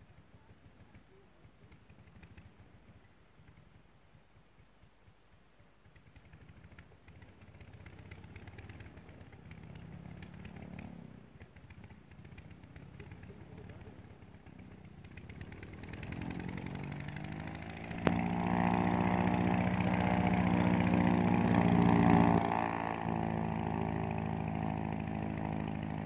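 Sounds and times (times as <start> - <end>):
propeller aircraft engine running: 0.0 - 26.0.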